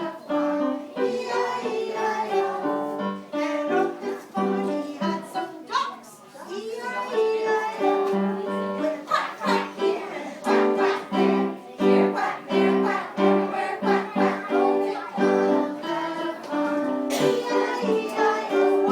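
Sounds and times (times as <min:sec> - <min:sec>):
group of people singing: 0:00.0 - 0:05.6, 0:06.4 - 0:18.9.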